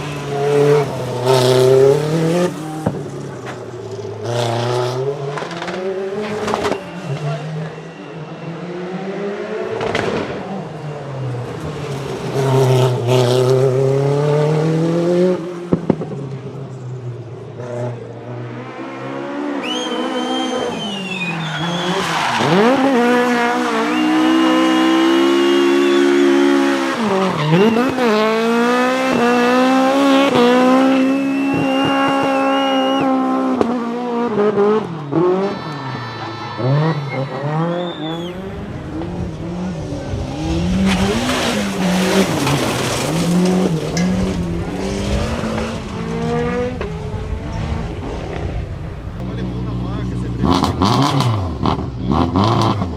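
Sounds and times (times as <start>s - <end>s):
rally car engines at full throttle: 0.0s - 52.9s.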